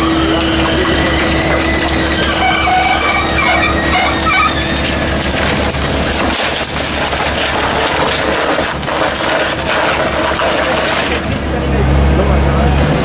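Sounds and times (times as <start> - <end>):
squeaks from squeezed metal: 0.0 - 10.5
hydraulic baler running: 0.0 - 13.0
low machine hum: 0.0 - 13.0.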